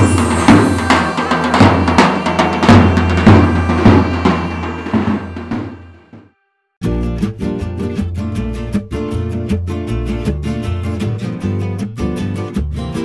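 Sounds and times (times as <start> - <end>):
music with drum beat and bass: 0.0 - 6.0, 6.8 - 13.0.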